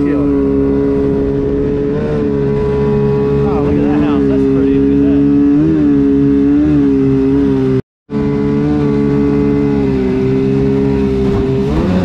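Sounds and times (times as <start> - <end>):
two-stroke boat engine running: 0.0 - 12.0.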